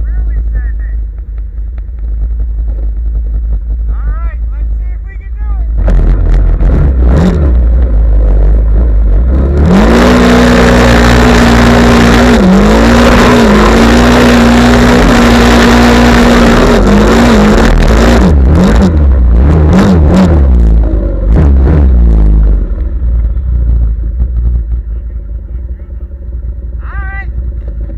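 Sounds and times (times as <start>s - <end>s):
vehicle engine revving: 0.0s - 27.9s.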